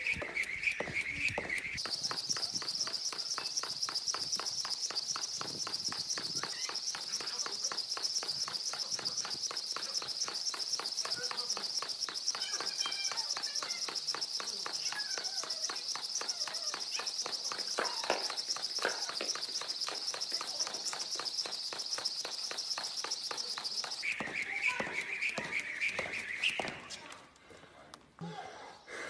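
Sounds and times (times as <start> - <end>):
jump landings: 0.0 - 27.0
jump rope whirring and slapping: 0.0 - 27.2.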